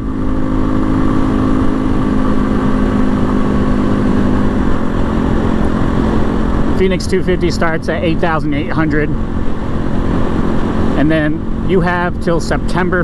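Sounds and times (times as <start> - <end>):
motorcycle engine running: 0.0 - 13.0
wind noise: 0.0 - 13.0.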